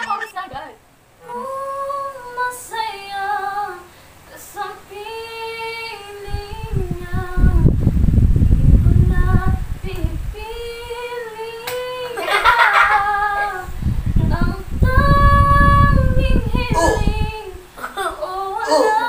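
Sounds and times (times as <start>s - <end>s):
girl singing unaccompanied: 1.2s - 19.0s.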